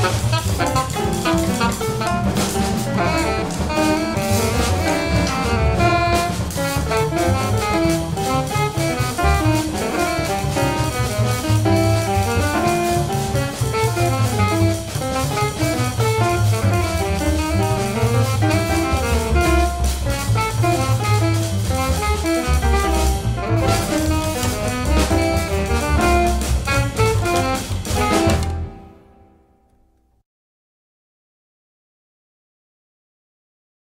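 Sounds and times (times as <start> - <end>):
double bass line: 0.0 - 29.1
drum kit drumming: 0.0 - 29.1
alto saxophone: 0.0 - 29.3
piano: 0.0 - 30.2.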